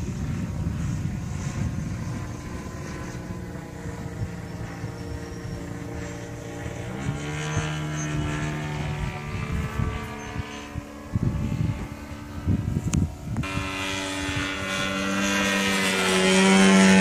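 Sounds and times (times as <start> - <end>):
model airplane engine drone: 0.0 - 17.0.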